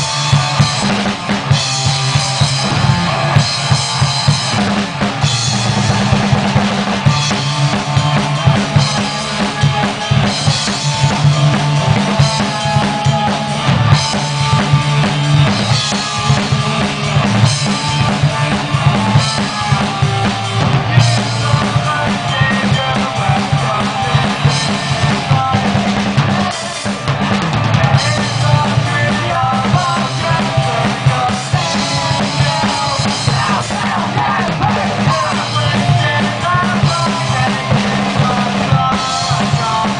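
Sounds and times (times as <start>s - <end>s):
drum kit with snare rimshots: 0.0s - 39.9s
live rock band playing: 0.0s - 39.9s.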